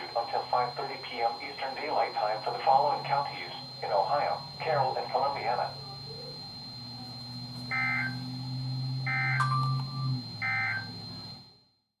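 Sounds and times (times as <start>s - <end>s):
warbling data tone bursts: 0.0s - 11.4s
faint steady high tone: 0.0s - 12.0s.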